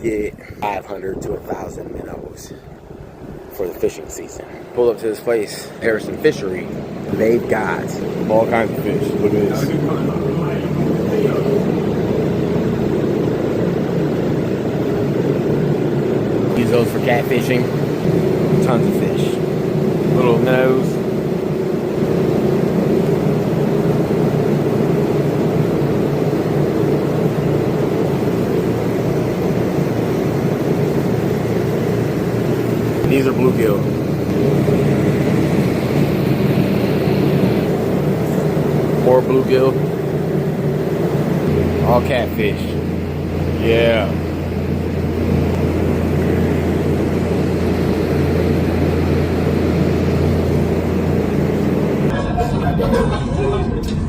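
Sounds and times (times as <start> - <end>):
machine drone with low hum: 0.0 - 54.0.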